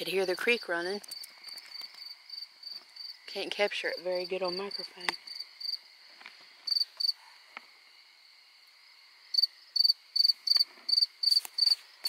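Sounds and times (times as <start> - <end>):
crickets chirping: 0.0 - 12.0
faint insect trill: 0.0 - 12.0.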